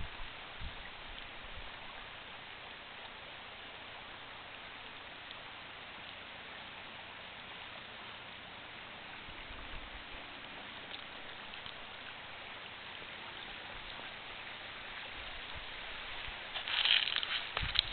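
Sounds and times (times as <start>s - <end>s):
outdoor hiss: 0.0s - 17.9s.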